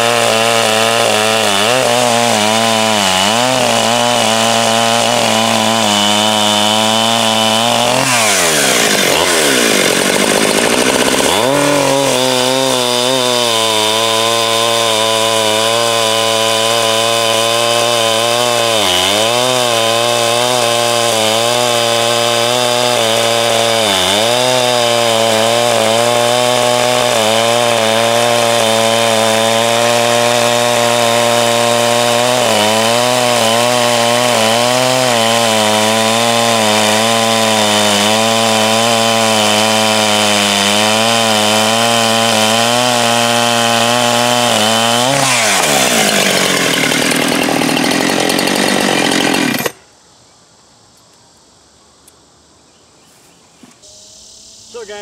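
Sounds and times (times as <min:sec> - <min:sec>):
chainsaw cutting log: 0:00.0 - 0:49.8.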